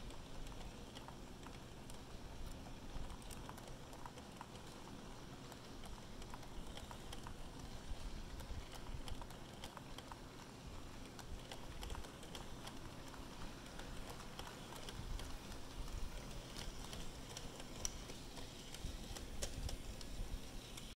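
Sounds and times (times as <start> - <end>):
low rumble of train rolling: 0.0 - 20.9
model train wheels clicking: 0.0 - 20.9.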